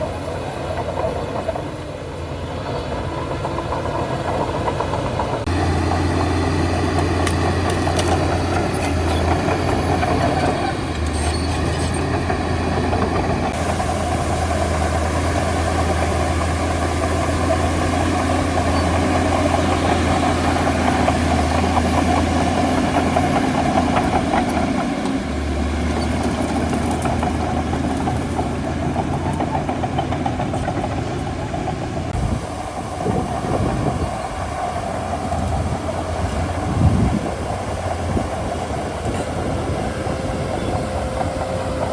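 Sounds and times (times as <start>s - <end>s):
bulldozer diesel engine rattling: 0.0s - 41.9s.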